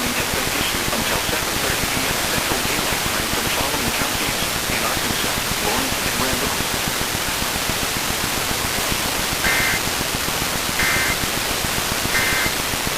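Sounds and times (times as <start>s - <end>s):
buzzy warbling data bursts: 0.0s - 12.9s
radio static hiss: 0.0s - 12.9s.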